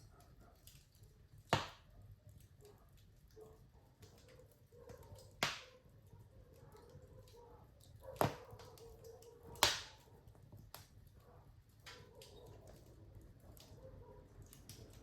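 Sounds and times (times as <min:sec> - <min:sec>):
fire crackling ticks: 0:00.0 - 0:15.0
wood fire popping: 0:00.0 - 0:15.0.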